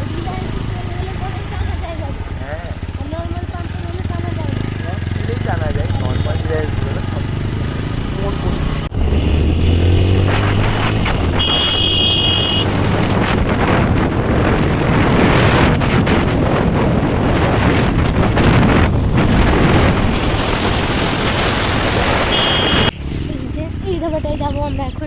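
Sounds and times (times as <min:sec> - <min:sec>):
motorcycle engine low hum: 0:00.0 - 0:15.0, 0:15.6 - 0:25.0
wind rushing over microphone: 0:00.0 - 0:25.0.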